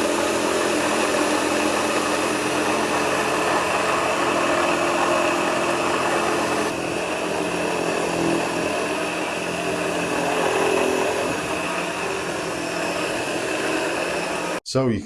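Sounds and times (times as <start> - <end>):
upright vacuum cleaner running: 0.0 - 14.6.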